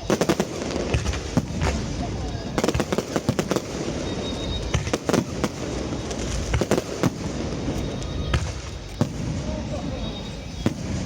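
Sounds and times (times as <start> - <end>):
fireworks bangs: 0.0 - 11.0
rumble of firework bursts: 0.0 - 11.0.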